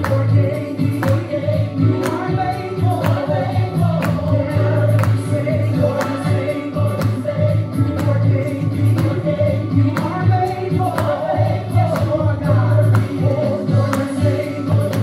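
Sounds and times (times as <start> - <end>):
gospel choir singing over beat: 0.0 - 15.0.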